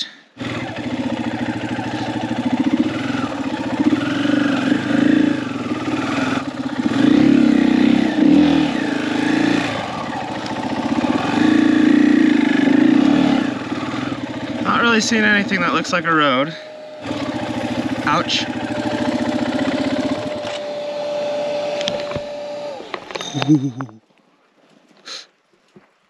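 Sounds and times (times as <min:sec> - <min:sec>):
dirt bike engine revving: 0:00.0 - 0:23.8.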